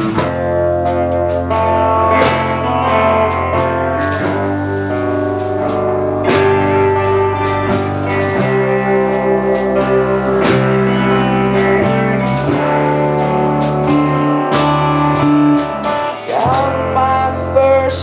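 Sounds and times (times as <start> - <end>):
bass: 0.0 - 18.0
drum kit beat: 0.0 - 18.0
electric guitar chords: 0.0 - 18.0.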